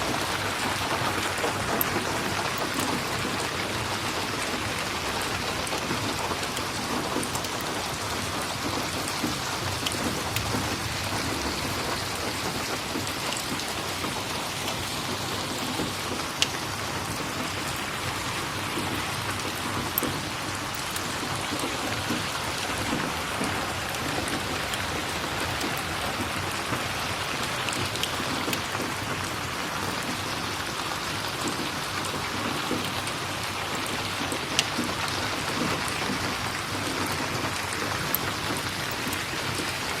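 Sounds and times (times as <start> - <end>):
steady rain falling: 0.0 - 40.0
wood fire crackling: 0.1 - 36.8.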